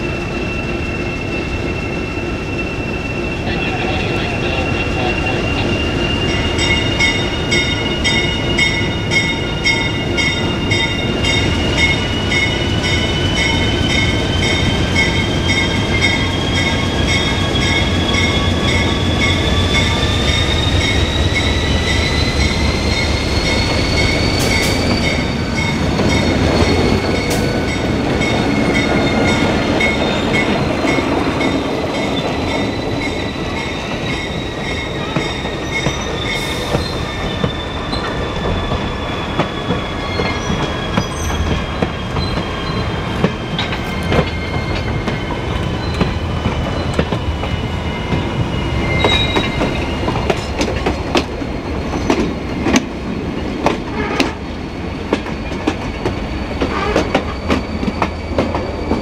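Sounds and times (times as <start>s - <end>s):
freight train rumbling: 0.0s - 59.0s
wheels squealing on rails: 0.0s - 59.0s.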